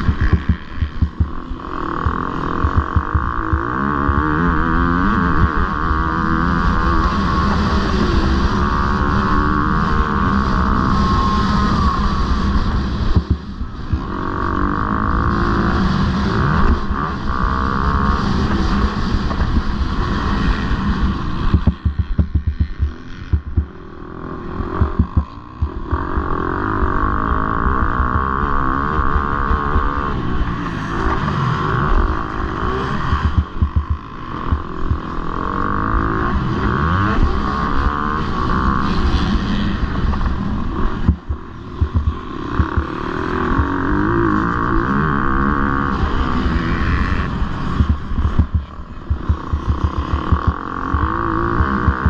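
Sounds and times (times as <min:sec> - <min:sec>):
motocross bike engines revving: 0:00.0 - 0:52.0.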